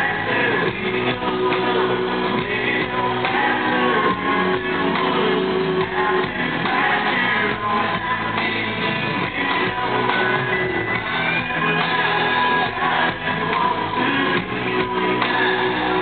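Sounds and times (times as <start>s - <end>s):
live country band: 0.0s - 16.0s
man singing: 0.0s - 16.0s.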